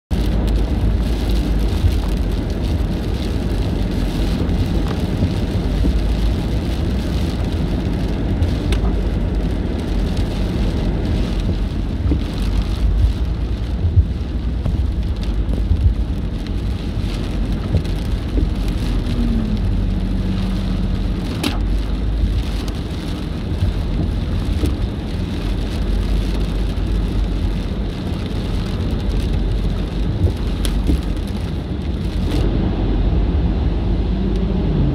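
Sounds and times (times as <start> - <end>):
rain on car windshield and roof: 0.1 - 34.9
tyres rumbling on wet road: 0.1 - 34.9.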